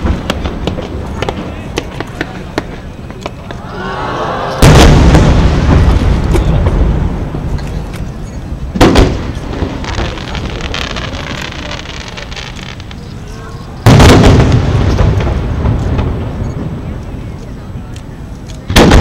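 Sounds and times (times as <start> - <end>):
firework shells booming: 0.0 - 3.6, 4.6 - 17.0, 18.7 - 19.0.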